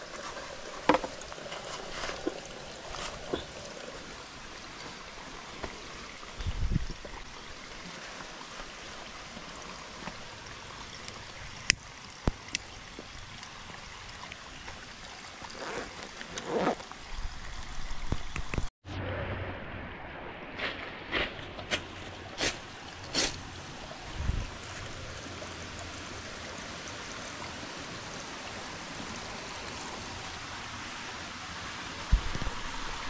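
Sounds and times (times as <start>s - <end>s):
stream trickling through bamboo spout: 0.0s - 18.7s, 20.6s - 33.0s.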